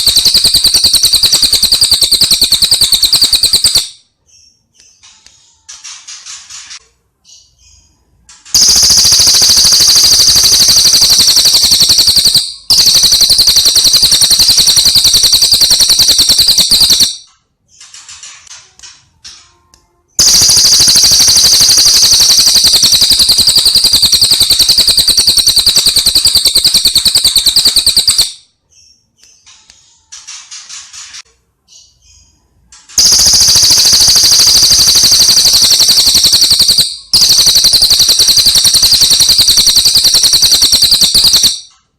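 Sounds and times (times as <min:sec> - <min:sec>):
rapid high-pitched bird trills: 0:00.0 - 0:18.1, 0:20.2 - 0:29.6, 0:33.0 - 0:41.8.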